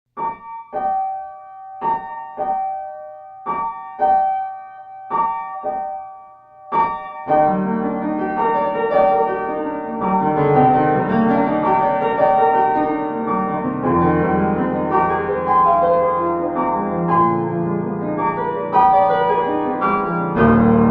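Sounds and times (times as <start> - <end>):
piano music: 0.2 - 20.9.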